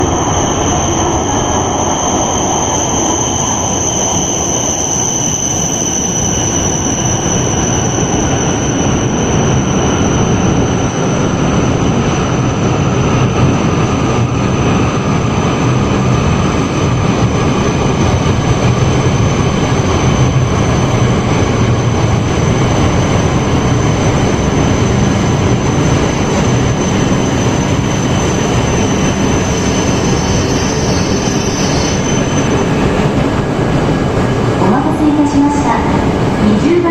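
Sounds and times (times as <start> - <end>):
train wheels rumbling on rail: 0.0 - 36.9.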